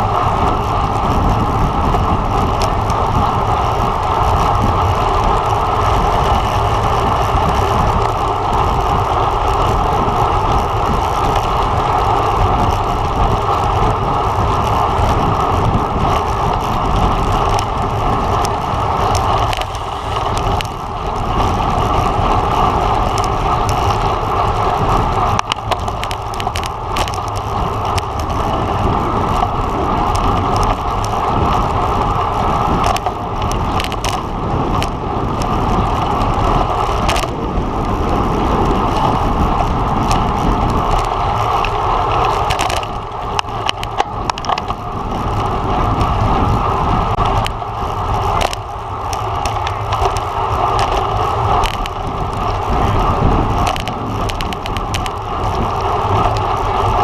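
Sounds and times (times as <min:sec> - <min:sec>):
wind and road noise: 0:00.0 - 0:57.0
wind buffeting microphone: 0:00.0 - 0:57.0.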